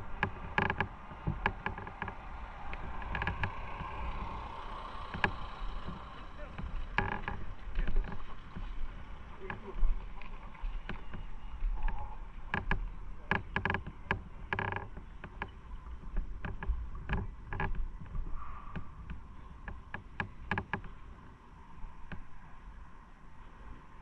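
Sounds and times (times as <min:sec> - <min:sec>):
small waves lapping among concrete: 0:00.0 - 0:24.0
wind rumble on microphone: 0:00.0 - 0:24.0.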